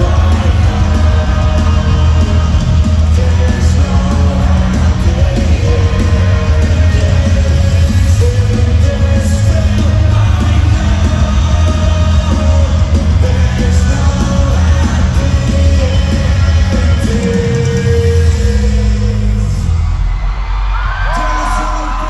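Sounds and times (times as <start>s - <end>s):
crowd shouting and singing: 0.0s - 22.0s
live rock music: 0.0s - 22.0s.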